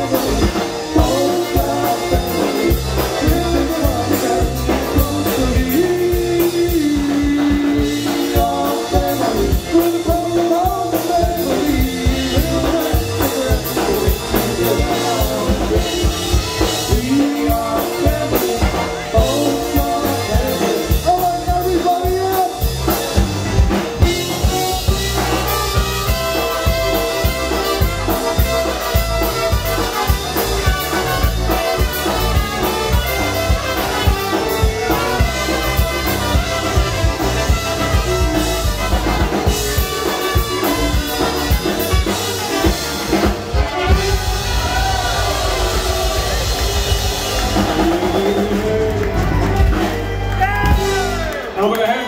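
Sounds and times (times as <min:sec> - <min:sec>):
accordion and concertina: 0:00.0 - 0:50.4
trumpets playing melody: 0:00.0 - 0:51.4
drum kit beat: 0:00.0 - 0:51.6
electric guitar: 0:00.0 - 0:52.0.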